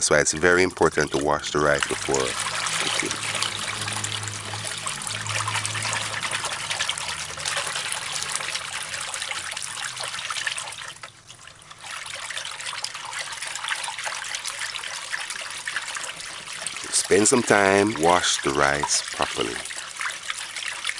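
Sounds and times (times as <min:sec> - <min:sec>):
water sloshing in bowl: 0:00.4 - 0:20.9.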